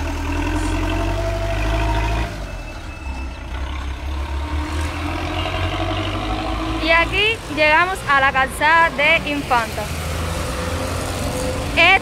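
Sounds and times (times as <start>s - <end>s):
passing vehicle engine: 0.0s - 12.0s
street traffic: 0.0s - 12.0s
truck engine pulling away: 0.0s - 12.0s.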